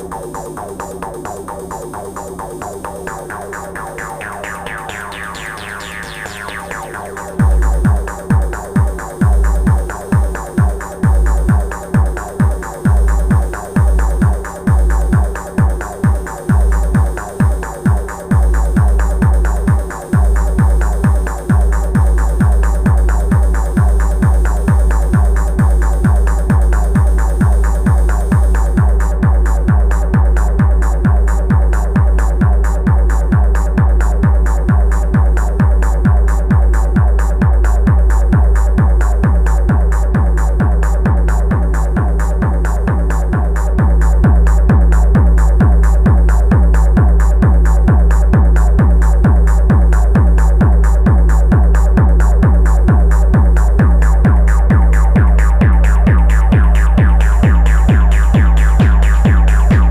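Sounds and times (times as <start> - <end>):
techno kick drum: 0.0 - 59.9.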